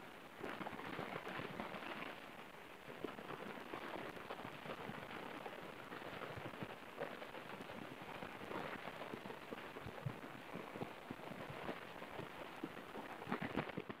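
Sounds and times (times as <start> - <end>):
rain drips pattering: 0.0 - 14.0.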